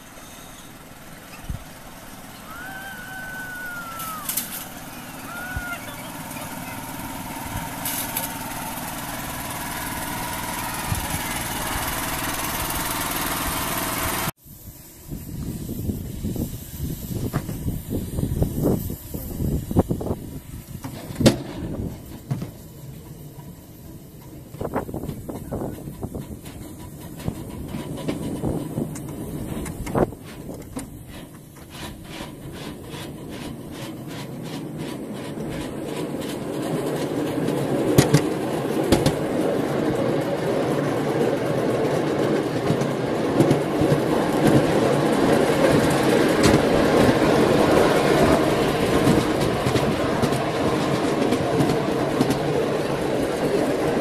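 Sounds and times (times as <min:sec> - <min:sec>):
train wheels clicking and rattling: 0:00.0 - 0:14.3, 0:15.4 - 0:54.0
wheels rumbling on rails: 0:00.0 - 0:54.0.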